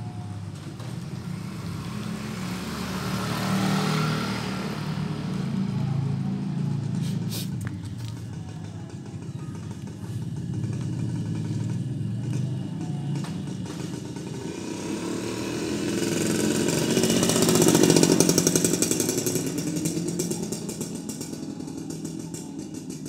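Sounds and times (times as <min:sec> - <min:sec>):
motorcycle passing: 0:00.0 - 0:23.0.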